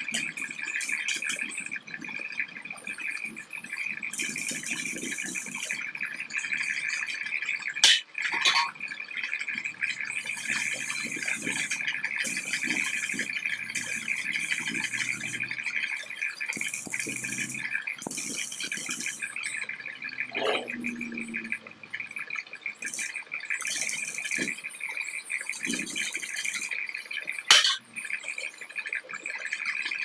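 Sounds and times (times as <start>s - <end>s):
welding arc crackling: 0.0s - 29.6s.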